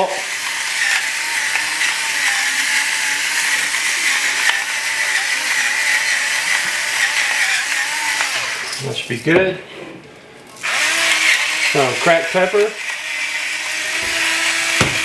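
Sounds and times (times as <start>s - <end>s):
electric salt grinder whirring: 0.0s - 8.8s, 10.6s - 15.0s.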